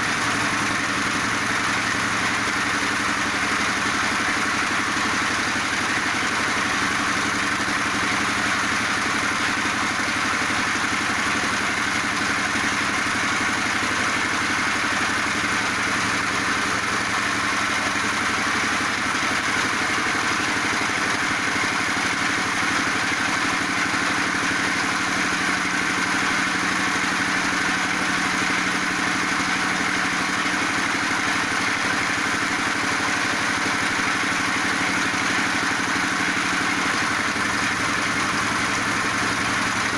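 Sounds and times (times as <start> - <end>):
pellet machine motor running: 0.0 - 39.9.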